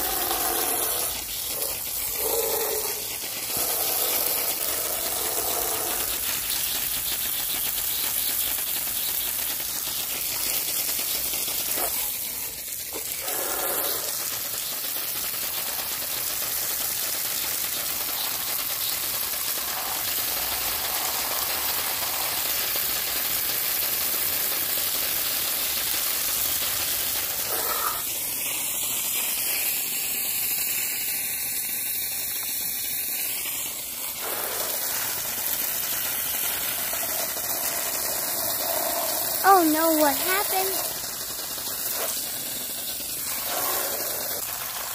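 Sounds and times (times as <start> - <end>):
water jet spraying: 0.0 - 44.9.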